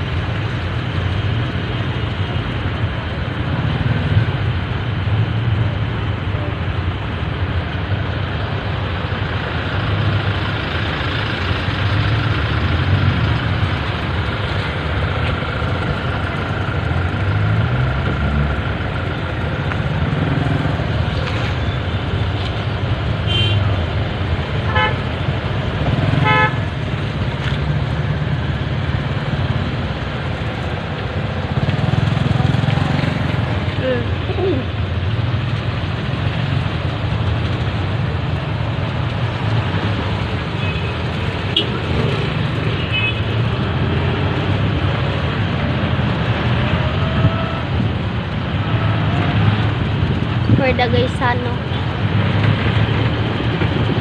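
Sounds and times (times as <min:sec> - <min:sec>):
road and wind noise: 0:00.0 - 0:54.0
vehicle engine rumble: 0:00.0 - 0:54.0.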